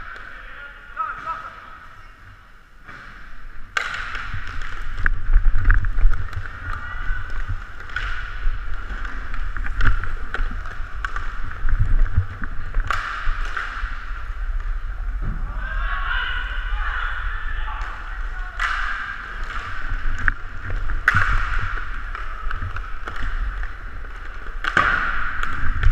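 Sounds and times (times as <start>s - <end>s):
hockey sticks and puck clacking: 0.0s - 1.9s, 2.8s - 25.9s
skating rumble and wind noise: 0.0s - 25.9s.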